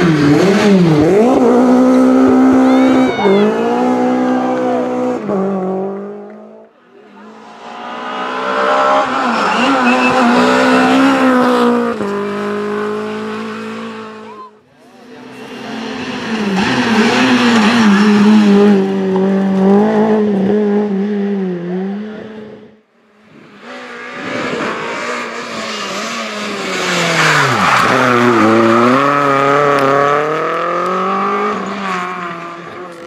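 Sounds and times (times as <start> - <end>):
rally car engines revving hard: 0.0 - 33.0.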